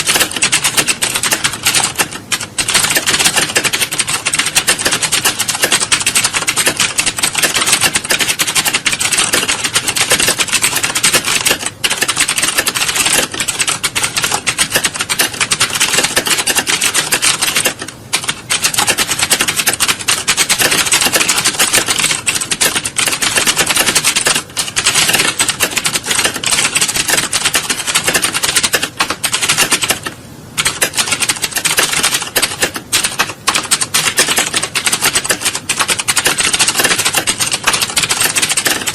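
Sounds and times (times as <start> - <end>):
keyboards typing clatter: 0.0 - 38.9.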